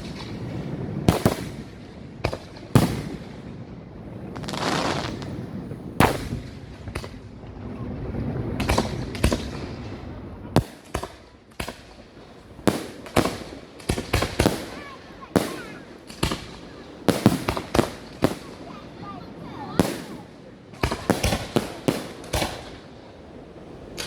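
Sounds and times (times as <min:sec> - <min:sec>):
fireworks bangs: 0:00.0 - 0:24.0
noisy firework rush: 0:00.0 - 0:24.0.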